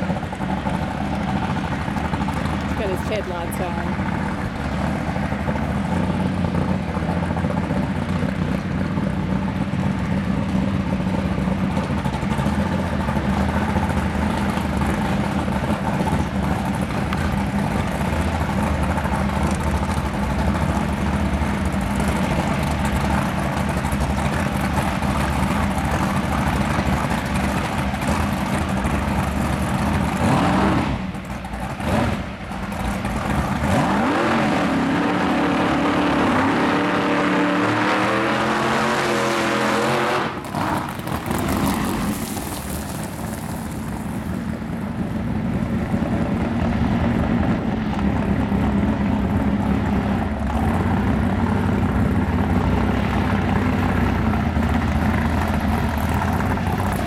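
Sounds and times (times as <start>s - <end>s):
drag car engine idling and revving: 0.0s - 57.0s.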